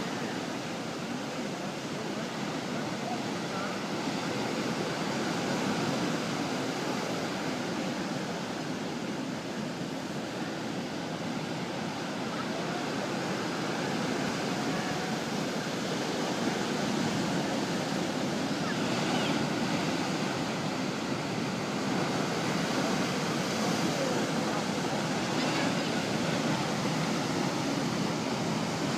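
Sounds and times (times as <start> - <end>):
ocean waves breaking: 0.0 - 28.9.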